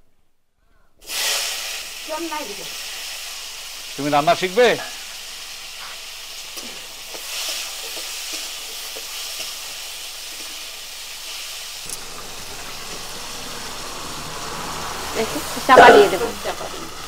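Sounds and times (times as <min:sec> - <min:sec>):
vegetables sizzling in oil: 0:01.0 - 0:17.0.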